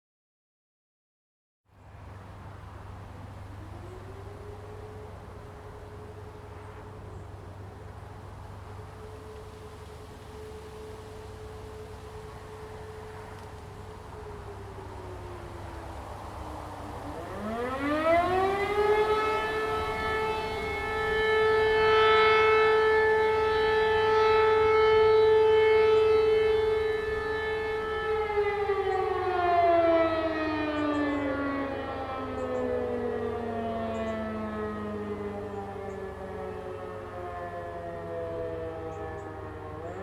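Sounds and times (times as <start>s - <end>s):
motor siren howling: 2.0s - 40.0s.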